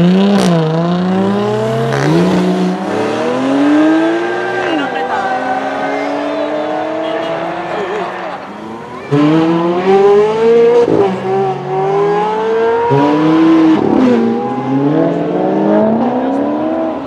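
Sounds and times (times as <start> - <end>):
car engines accelerating hard: 0.0 - 17.0.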